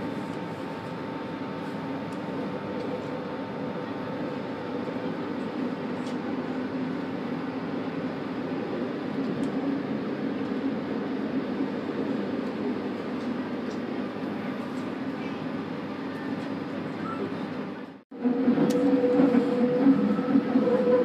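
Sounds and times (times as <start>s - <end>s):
train wheels rumbling on rail: 4.2s - 21.0s.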